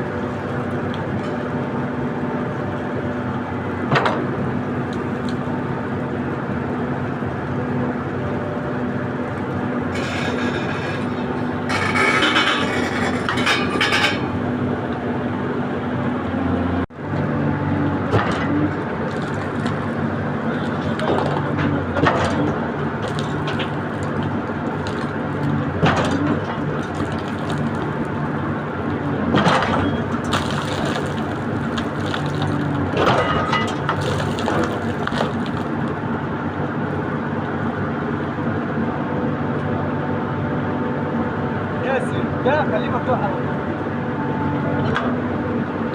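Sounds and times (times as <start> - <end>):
diesel engine under load: 0.0 - 45.9.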